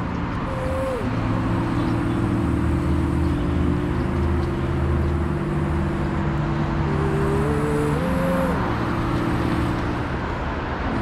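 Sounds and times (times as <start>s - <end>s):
car engine hum: 0.0s - 11.0s
road noise inside moving car: 0.0s - 11.0s.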